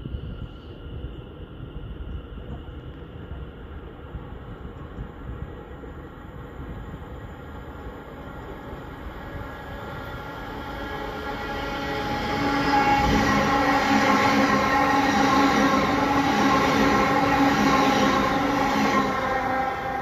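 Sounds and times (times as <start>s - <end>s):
electric train passing: 0.0s - 20.0s
train whine: 0.0s - 20.0s.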